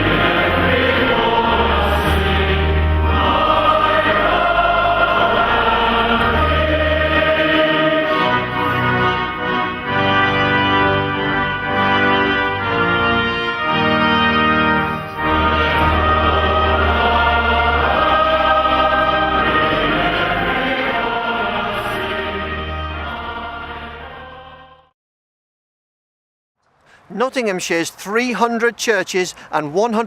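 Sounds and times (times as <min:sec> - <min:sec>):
choir singing held chords: 0:00.0 - 0:24.9.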